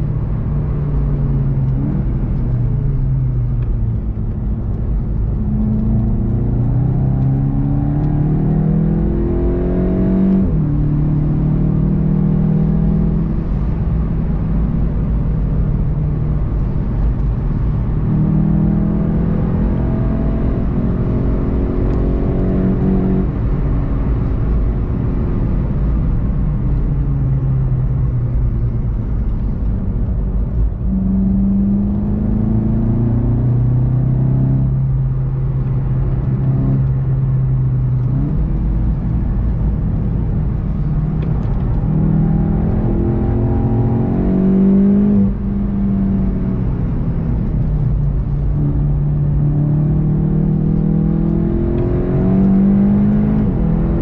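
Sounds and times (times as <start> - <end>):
car engine accelerating hard: 0.0 - 54.0
road and tyre rumble: 0.0 - 54.0.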